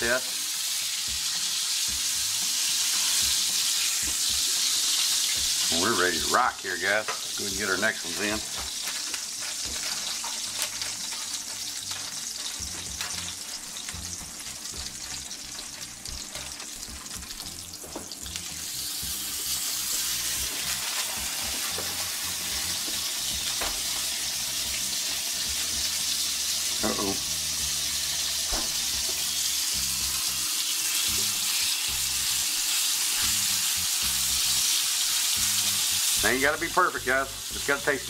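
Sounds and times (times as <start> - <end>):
burger patties sizzling in a pan: 0.0 - 38.0.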